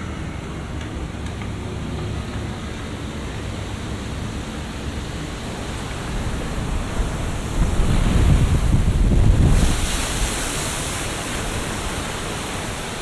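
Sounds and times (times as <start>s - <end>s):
rushing splashing water: 2.4s - 13.0s.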